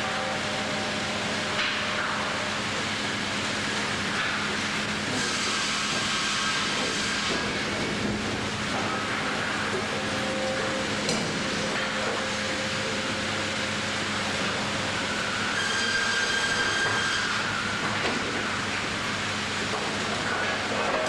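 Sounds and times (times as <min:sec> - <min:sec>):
high machine whine: 0:00.0 - 0:21.0
sawmill bandsaw machinery running: 0:00.0 - 0:21.0.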